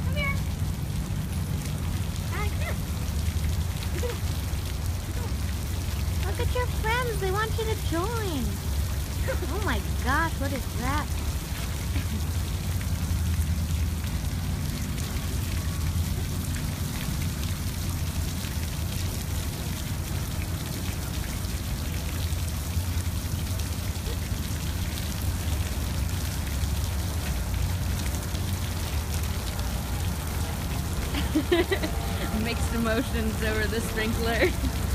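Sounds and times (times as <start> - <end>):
water sprinkler spraying: 0.0 - 34.9
droplets pattering on ground: 0.1 - 34.9.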